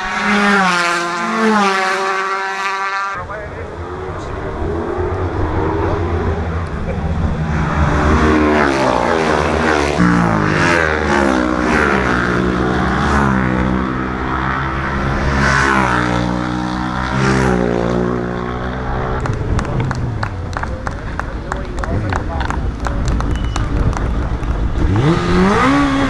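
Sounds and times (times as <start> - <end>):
racing motorcycle engines passing: 0.0 - 26.0.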